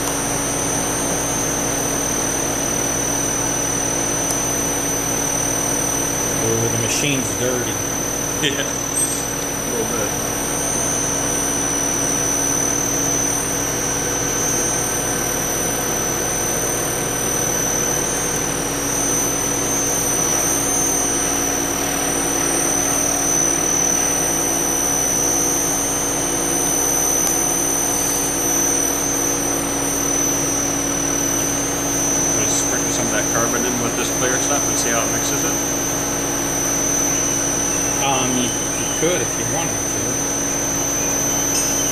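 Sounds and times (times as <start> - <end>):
extruder machine hum and whine: 0.0 - 41.9.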